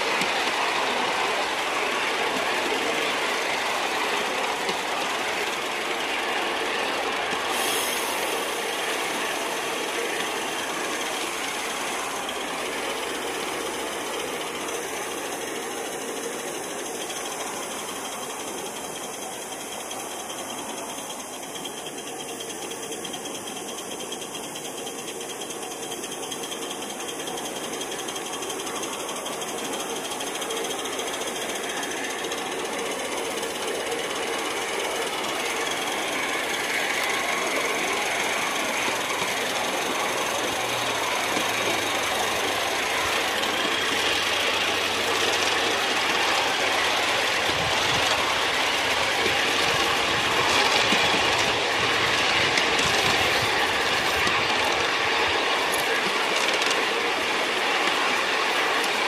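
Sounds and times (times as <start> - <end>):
miniature steam locomotive running: 0.0 - 59.0.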